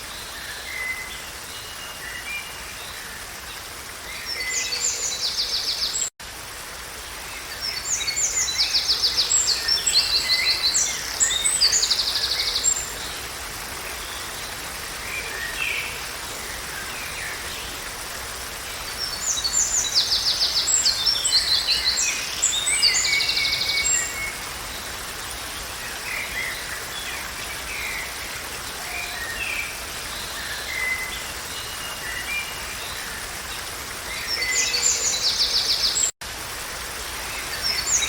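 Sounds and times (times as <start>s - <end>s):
forest ambience hiss: 0.0s - 38.0s.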